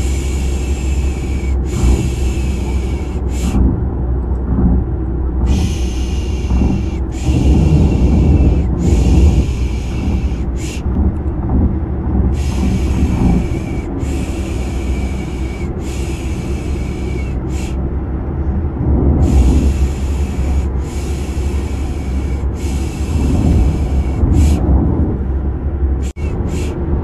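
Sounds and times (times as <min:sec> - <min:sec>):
car engine rumble from inside: 0:00.0 - 0:27.0.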